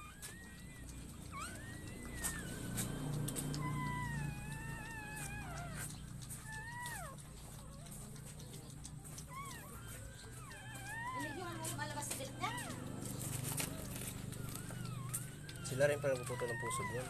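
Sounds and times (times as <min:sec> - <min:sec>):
low steady rumble: 0:00.0 - 0:17.0
puppies crying: 0:00.0 - 0:17.0.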